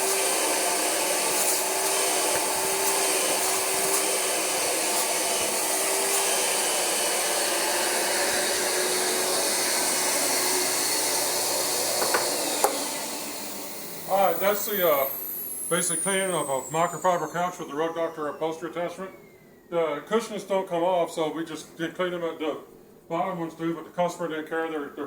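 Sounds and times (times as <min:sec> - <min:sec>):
carpet cleaner vacuum motor whining: 0:00.0 - 0:21.2.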